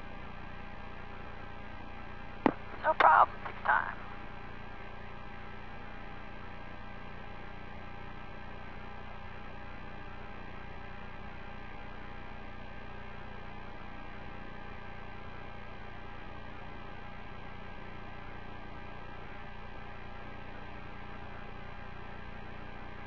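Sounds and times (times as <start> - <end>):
steady hum with fixed tones: 0.0 - 23.0.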